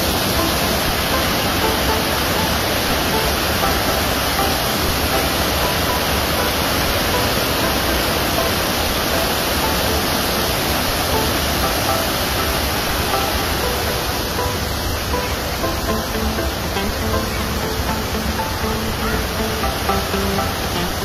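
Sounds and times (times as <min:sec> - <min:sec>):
water rushing over a weir: 0:00.0 - 0:21.0.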